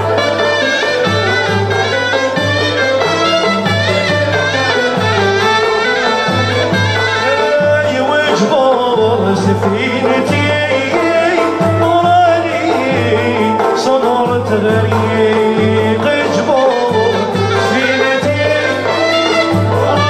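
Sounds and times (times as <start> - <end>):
oud violins banjo and clarinet: 0.0 - 20.0.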